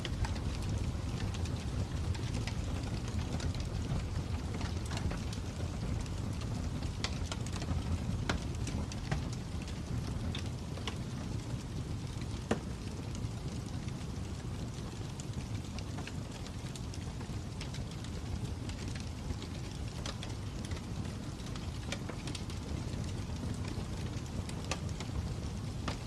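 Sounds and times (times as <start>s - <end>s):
fire crackling with pops: 0.0s - 26.0s.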